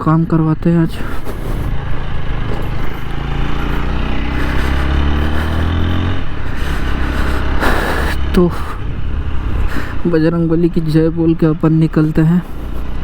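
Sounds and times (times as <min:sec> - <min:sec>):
motorcycle engine running: 0:00.9 - 0:13.0.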